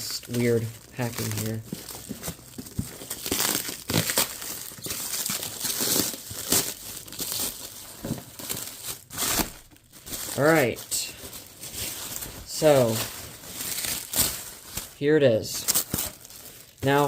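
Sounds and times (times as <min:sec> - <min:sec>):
packing material crinkling and tearing: 0:00.0 - 0:17.0.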